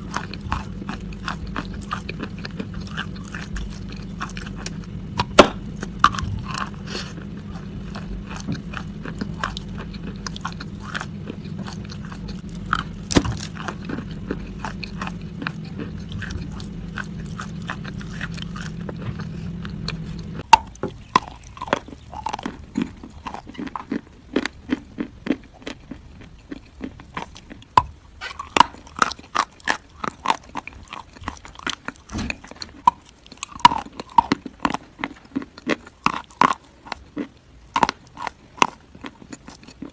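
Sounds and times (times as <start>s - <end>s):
low steady hum: 0.0s - 39.9s
person chewing crunchy food: 0.0s - 39.9s.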